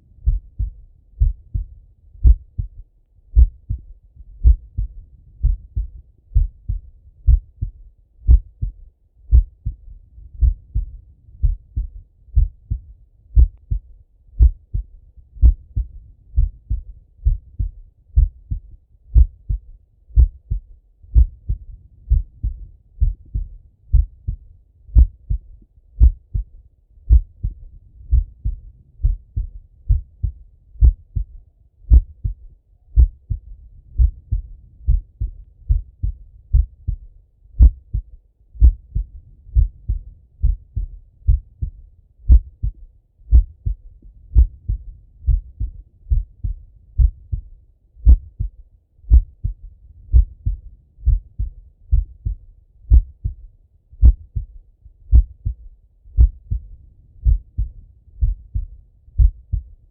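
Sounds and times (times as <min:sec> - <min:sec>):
heartbeat through a stethoscope: 0:00.0 - 0:59.9.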